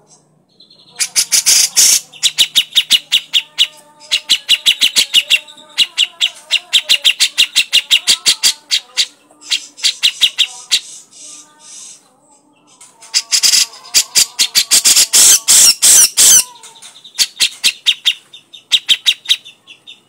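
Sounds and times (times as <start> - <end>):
bird harsh chattering call: 0.8 - 11.0, 13.1 - 19.6.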